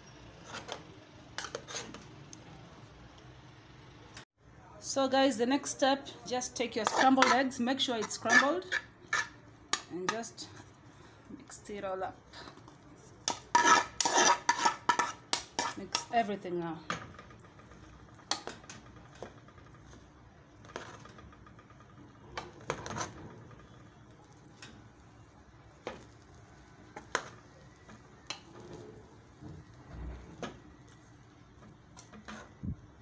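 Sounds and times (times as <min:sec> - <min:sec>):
metal spoon clinking and scraping pot: 0:00.0 - 0:04.0, 0:06.5 - 0:10.8, 0:12.4 - 0:16.4, 0:17.1 - 0:33.0.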